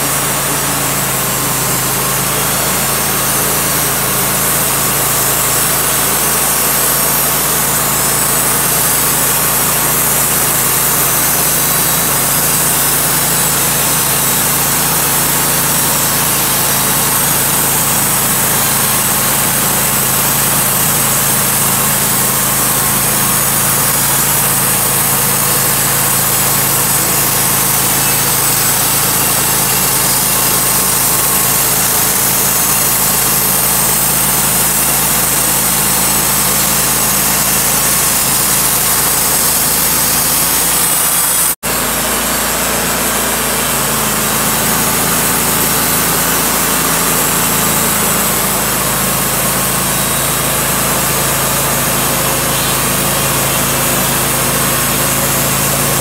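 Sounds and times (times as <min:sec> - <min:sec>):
bandsaw mill sawing log: 0:00.0 - 0:56.0.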